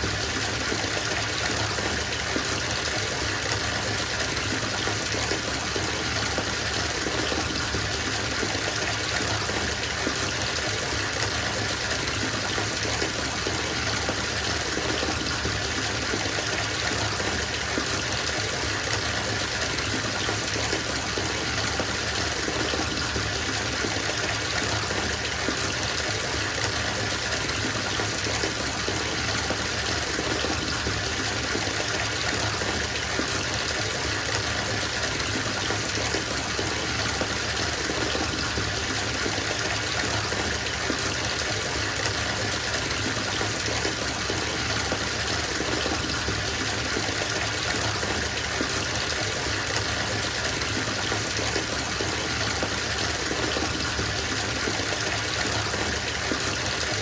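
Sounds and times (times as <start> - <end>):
tap running into bathtub: 0.0 - 57.0.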